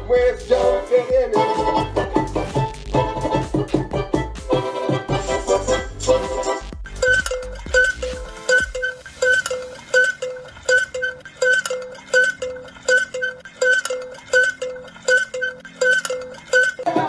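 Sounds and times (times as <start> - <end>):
hand-cranked toy repeating tone: 1.2 - 16.9.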